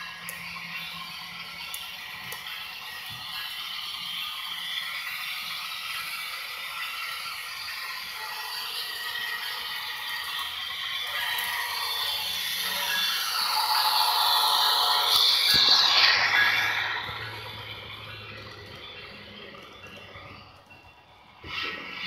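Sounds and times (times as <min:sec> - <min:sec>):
model train motor whir: 0:00.0 - 0:22.0.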